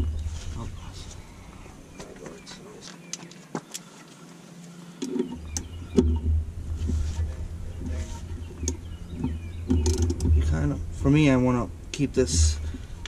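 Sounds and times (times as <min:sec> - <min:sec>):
steady low rumble: 0:00.0 - 0:03.2, 0:04.2 - 0:13.0.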